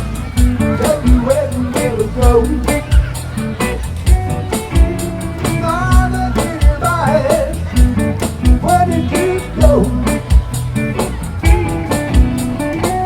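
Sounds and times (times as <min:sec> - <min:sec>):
bass guitar: 0:00.0 - 0:13.0
bending lead guitar line: 0:00.0 - 0:13.0
drums keeping steady beat: 0:00.0 - 0:13.0
electric guitar: 0:00.0 - 0:13.0.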